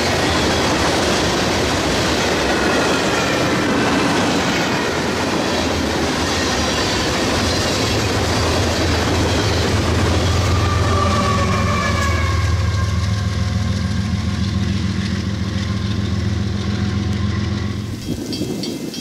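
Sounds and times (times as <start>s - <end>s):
diesel locomotive engine rumble: 0.0s - 19.0s
wheels clacking over rail joints: 0.0s - 19.0s
wheels squealing on rail: 0.0s - 19.0s.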